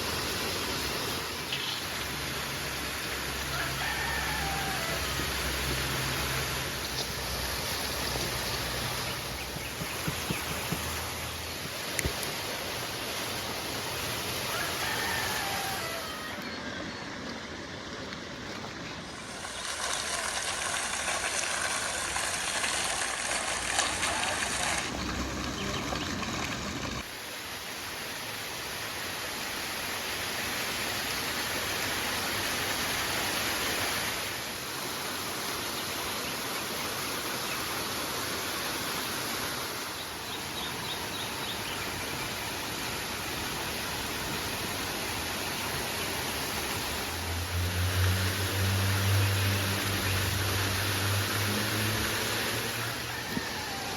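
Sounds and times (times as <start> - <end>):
river rushing: 0.0 - 9.8, 10.8 - 53.9.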